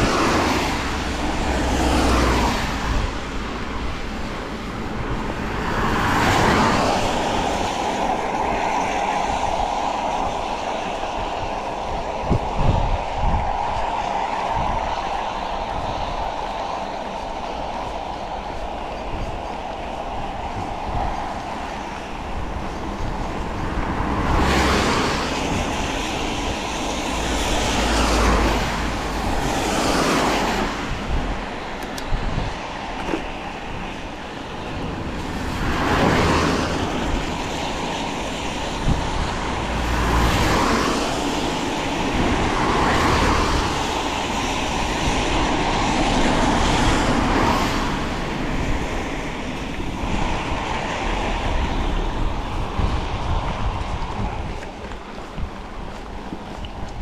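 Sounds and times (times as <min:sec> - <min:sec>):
bike tyres on wet road: 0:00.0 - 0:57.0
vehicles swishing past: 0:00.0 - 0:57.0
wind rushing: 0:00.0 - 0:57.0.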